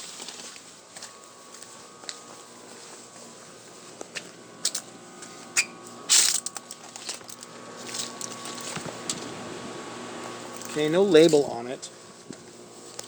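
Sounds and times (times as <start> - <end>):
air conditioner condenser humming: 0.0 - 13.0
footsteps crunching on dry ground: 0.0 - 13.0.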